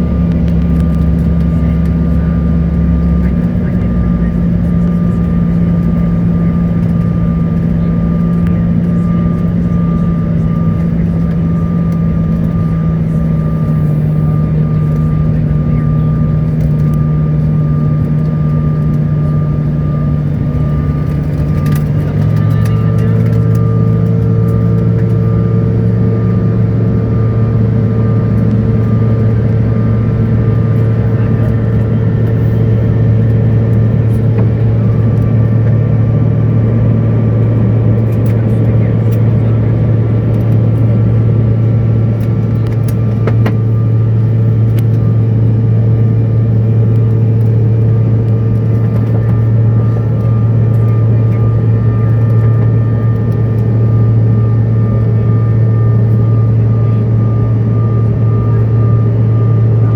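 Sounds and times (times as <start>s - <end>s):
jet engine cabin noise: 0.0s - 59.9s.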